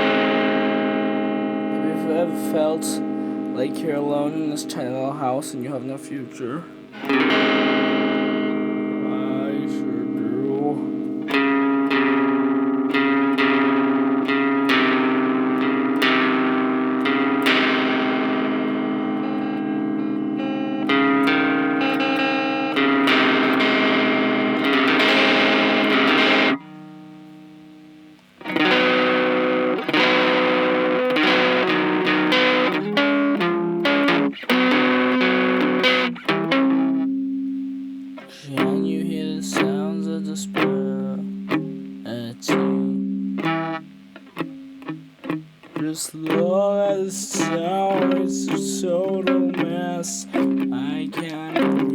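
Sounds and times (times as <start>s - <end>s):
distorted electric guitar strumming: 0.0s - 51.9s.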